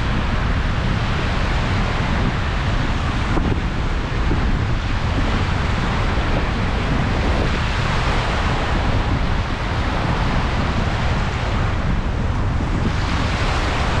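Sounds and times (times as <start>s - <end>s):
sea waves surf roar: 0.0s - 14.0s
wind buffeting microphone: 0.0s - 14.0s.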